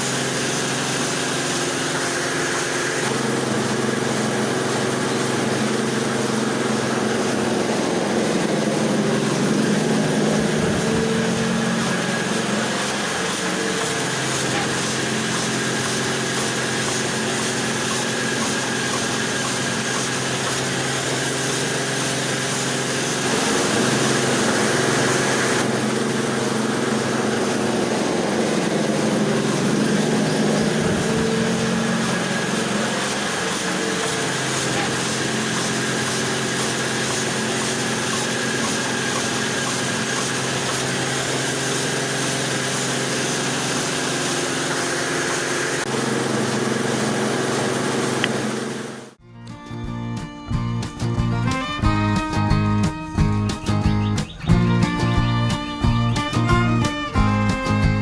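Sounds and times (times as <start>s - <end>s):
small electric motor humming: 0.0s - 49.2s.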